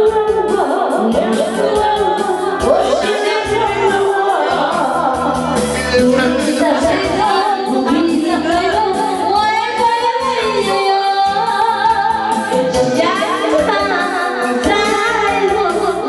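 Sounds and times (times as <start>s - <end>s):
karaoke backing track: 0.0s - 16.0s
woman singing karaoke: 0.0s - 16.0s.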